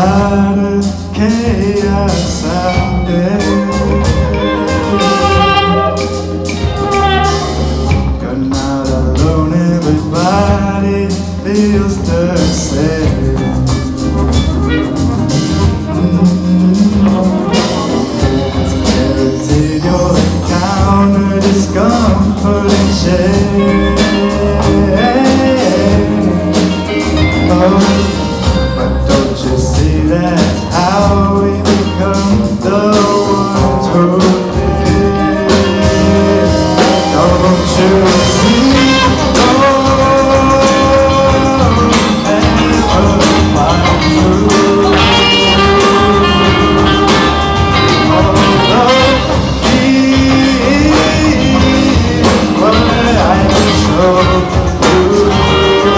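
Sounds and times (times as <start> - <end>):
bass: 0.0 - 55.9
drum kit beat: 0.0 - 55.9
guitars: 0.0 - 55.9
horns: 0.0 - 55.9
piano: 0.0 - 55.9.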